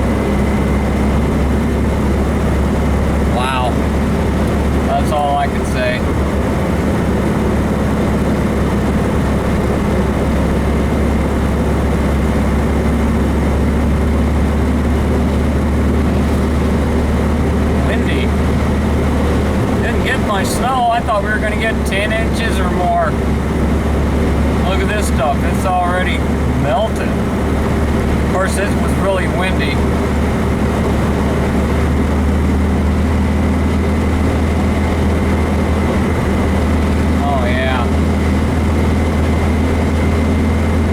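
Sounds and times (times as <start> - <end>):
car engine droning inside cabin: 0.0 - 40.9.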